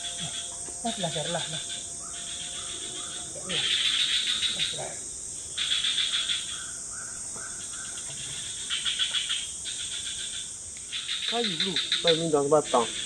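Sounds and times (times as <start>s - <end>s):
cricket trilling: 0.0s - 13.0s
high-pitched insect drone: 0.0s - 13.0s.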